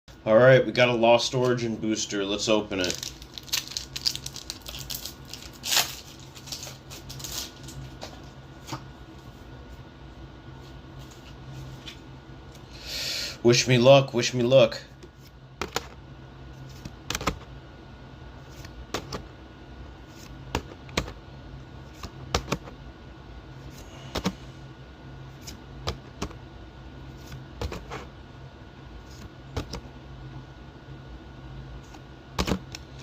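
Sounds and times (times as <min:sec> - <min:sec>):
steady low hum: 0:00.1 - 0:33.0.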